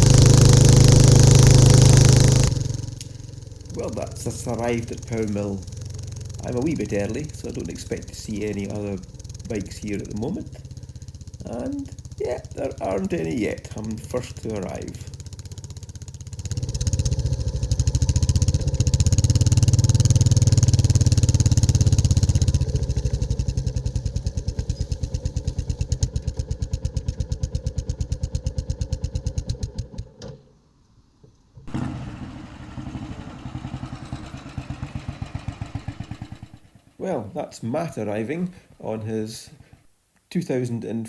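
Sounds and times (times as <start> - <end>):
motorcycle engine thumping: 0.0 - 30.4, 31.6 - 37.0.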